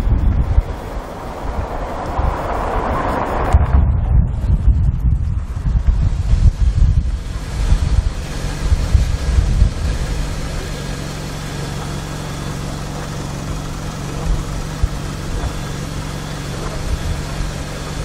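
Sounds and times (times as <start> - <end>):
car engine idling: 0.0 - 4.5, 5.2 - 18.0
wind gusting on microphone: 0.0 - 18.0.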